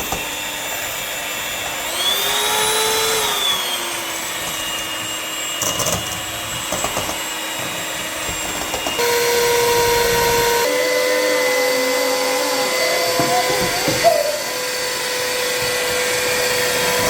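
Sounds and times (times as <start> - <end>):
electric mixer whining: 0.0 - 17.0.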